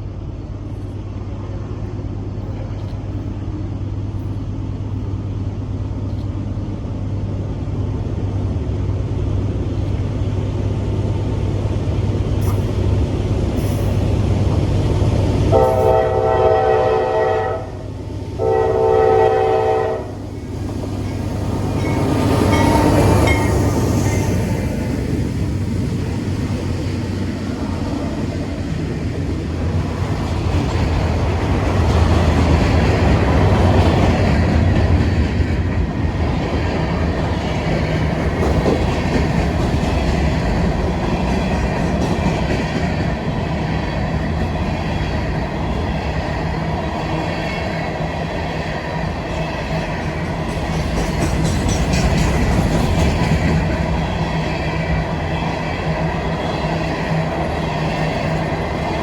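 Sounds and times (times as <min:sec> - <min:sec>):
freight train wheels rumbling: 0:00.0 - 0:59.0
low train engine tones: 0:00.0 - 0:59.0.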